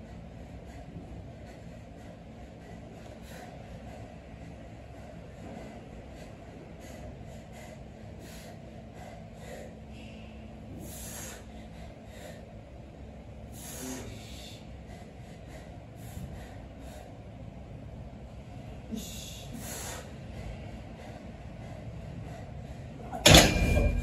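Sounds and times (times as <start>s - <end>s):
person breathing hard: 0.0s - 24.0s
steady low hum: 0.0s - 24.0s.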